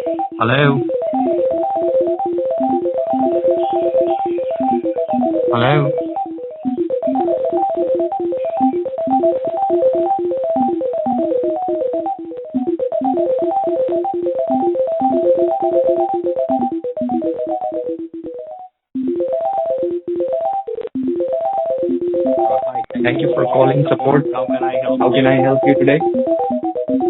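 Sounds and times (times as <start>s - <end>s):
electronic synth beeps over phone: 0.0s - 27.0s.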